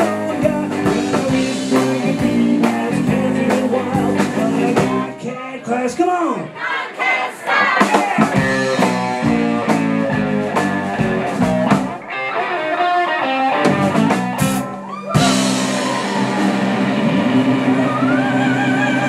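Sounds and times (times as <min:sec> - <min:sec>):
sliding guitar line: 0:00.0 - 0:05.2, 0:08.2 - 0:19.0
rockabilly band playing: 0:00.0 - 0:06.0, 0:06.9 - 0:19.0.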